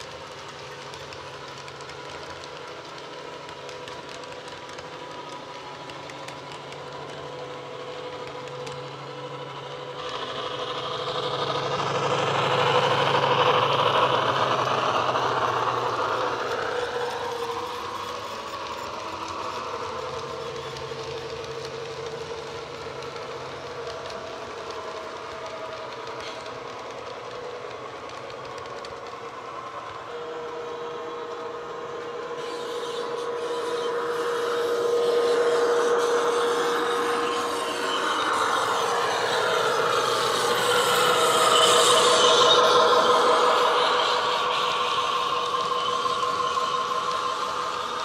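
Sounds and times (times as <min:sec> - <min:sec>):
model train running: 0:00.0 - 0:48.0.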